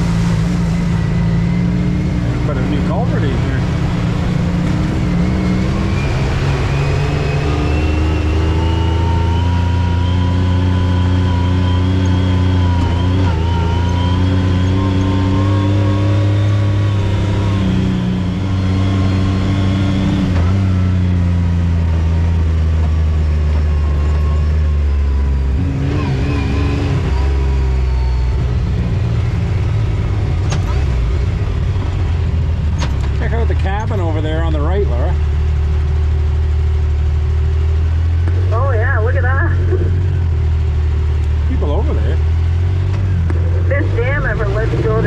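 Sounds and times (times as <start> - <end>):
off-road vehicle engine: 0.0 - 45.0.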